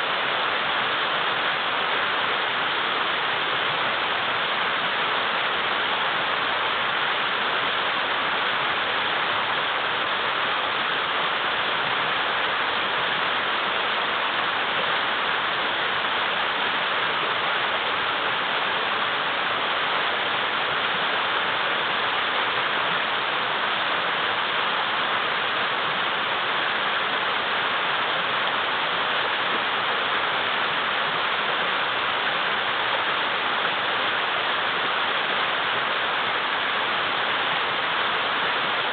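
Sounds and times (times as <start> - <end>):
river rushing over boulders: 0.0 - 38.9.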